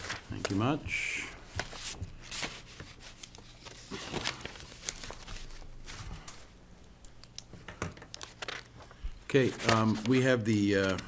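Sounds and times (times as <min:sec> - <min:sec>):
paper rustling and shuffling: 0:00.0 - 0:06.5, 0:07.2 - 0:11.0
faint room hum: 0:00.0 - 0:11.0.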